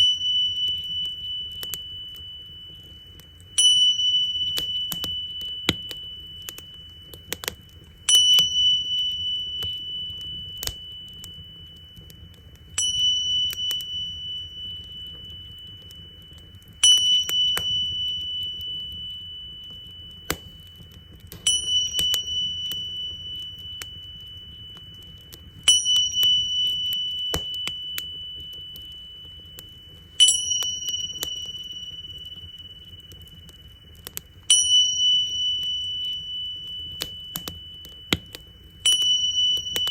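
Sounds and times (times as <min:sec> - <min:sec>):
small cymbals ringing: 0:00.0 - 0:39.9
wood fire crackling: 0:00.0 - 0:39.9.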